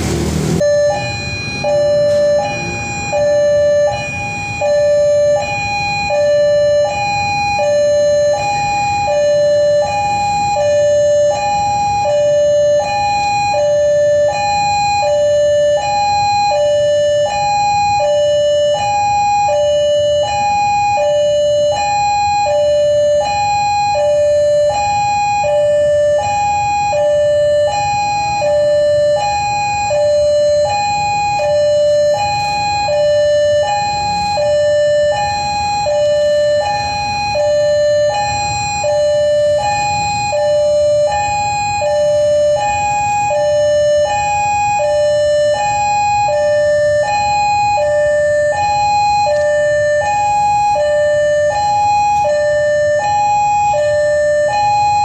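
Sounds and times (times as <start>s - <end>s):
low rumble of traffic: 0.0s - 55.0s
level-crossing two-tone warning bell: 0.6s - 55.0s.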